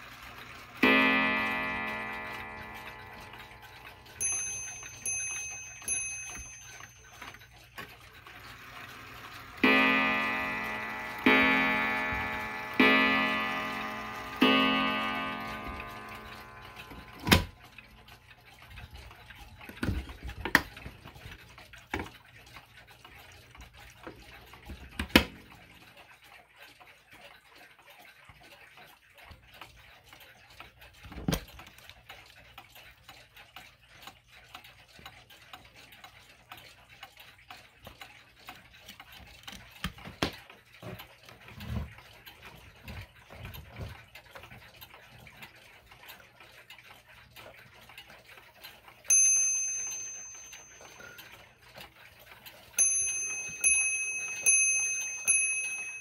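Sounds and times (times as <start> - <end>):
pendulum clocks ticking: 0.0 - 56.0.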